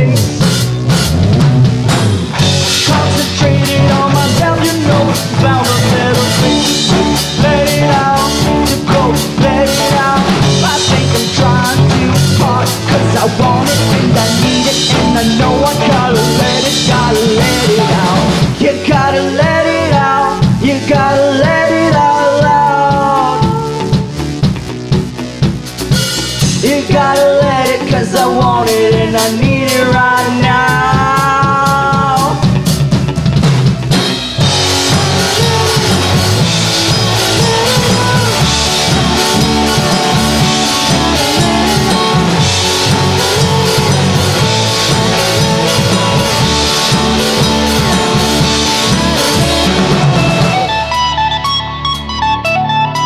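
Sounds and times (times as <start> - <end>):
electric guitar: 0.0 - 53.0
rock band playing live: 0.0 - 53.0.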